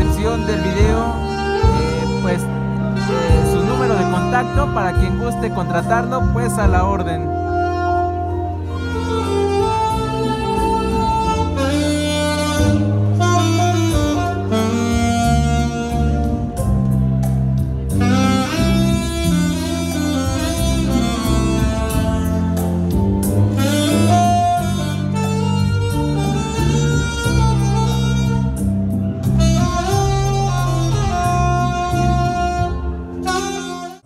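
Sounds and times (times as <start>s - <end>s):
backing music with bass line: 0.0s - 34.0s
saxophone melody: 0.0s - 34.0s.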